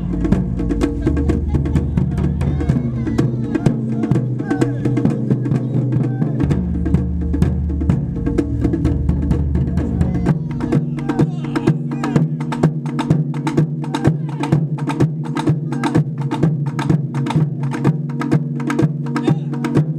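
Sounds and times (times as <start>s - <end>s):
rapid taiko drum strokes: 0.0s - 19.9s.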